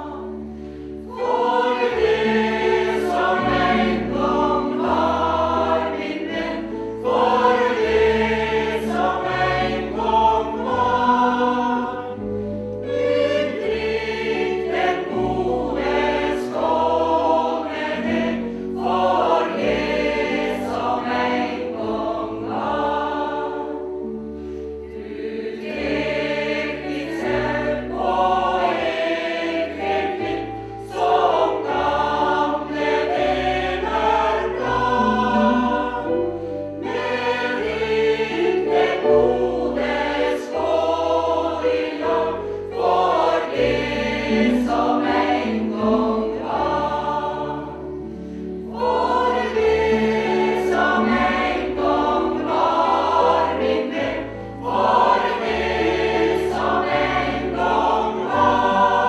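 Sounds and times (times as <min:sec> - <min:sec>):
mixed choir singing in harmony: 0:00.0 - 0:59.0.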